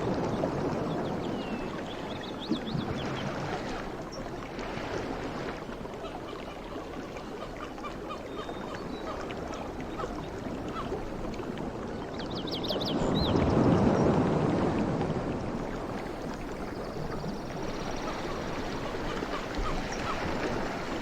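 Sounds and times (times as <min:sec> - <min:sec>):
sea water lapping: 0:00.0 - 0:12.2, 0:12.9 - 0:21.0.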